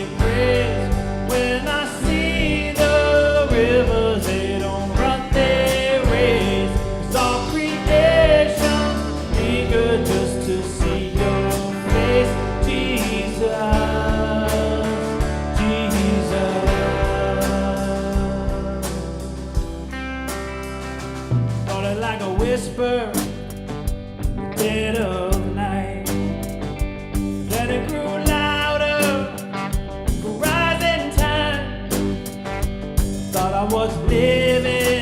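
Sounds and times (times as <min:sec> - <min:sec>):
country gospel band playing: 0:00.0 - 0:35.0.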